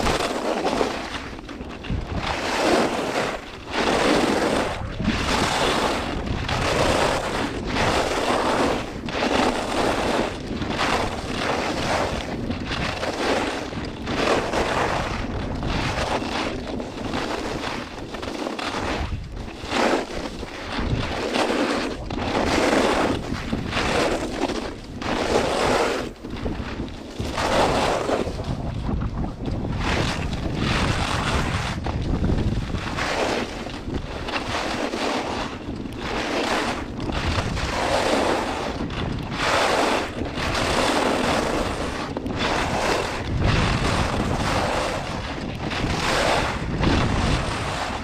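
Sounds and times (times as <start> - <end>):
skis scraping on icy snow: 0.0 - 48.0
wind on microphone: 0.0 - 48.0.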